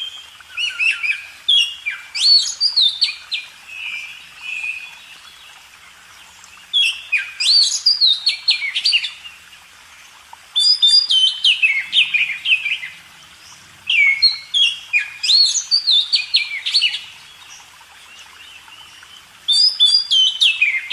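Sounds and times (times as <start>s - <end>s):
songbird singing: 0.0s - 20.9s.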